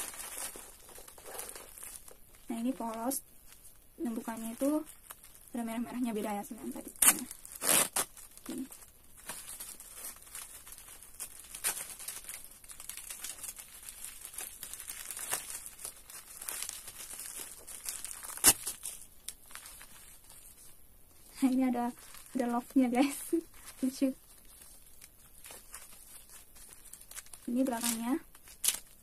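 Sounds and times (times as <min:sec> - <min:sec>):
plastic wrapper crinkling and tearing: 0:00.0 - 0:29.0.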